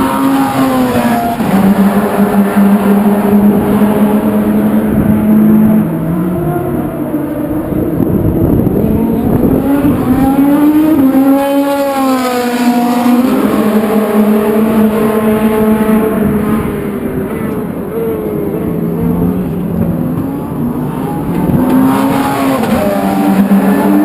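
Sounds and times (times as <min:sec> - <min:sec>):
race car engines: 0:00.0 - 0:24.0
race car passing close: 0:00.0 - 0:24.0.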